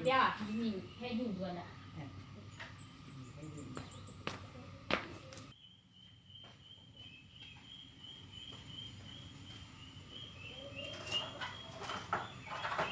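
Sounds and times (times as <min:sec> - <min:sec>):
faint low background hum: 0:00.0 - 0:12.9
farm bird calling: 0:00.0 - 0:12.9.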